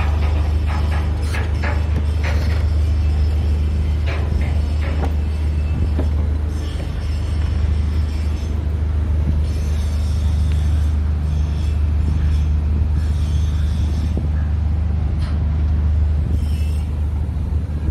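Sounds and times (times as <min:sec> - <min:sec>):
shipboard machinery droning: 0:00.0 - 0:17.9.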